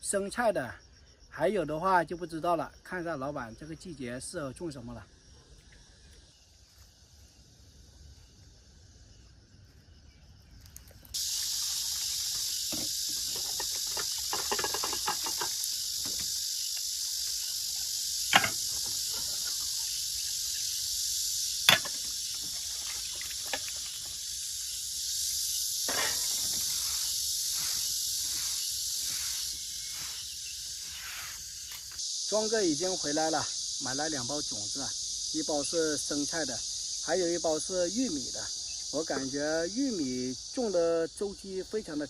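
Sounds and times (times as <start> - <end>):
insects chorus: 0.0 - 42.0.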